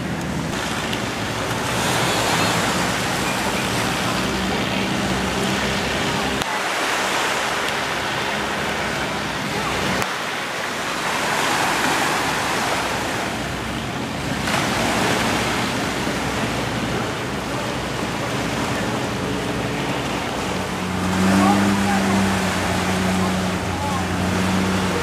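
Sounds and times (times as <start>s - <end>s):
small waves washing onto beach: 0.0s - 25.0s.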